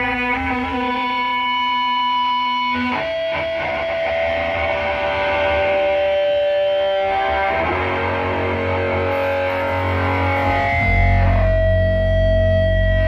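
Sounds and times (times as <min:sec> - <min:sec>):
distorted electric guitar and bass: 0:00.0 - 0:13.0.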